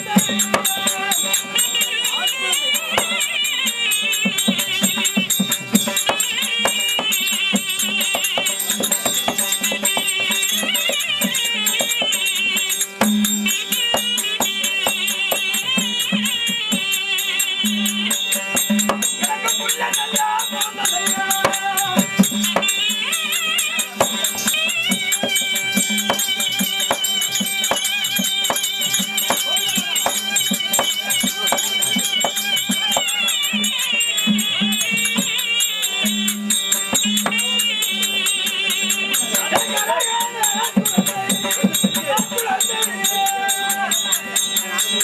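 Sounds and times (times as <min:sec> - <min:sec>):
hand drum strokes: 0:00.0 - 0:45.0
high wavering melody: 0:00.0 - 0:45.0
metallic jingling: 0:00.0 - 0:45.0.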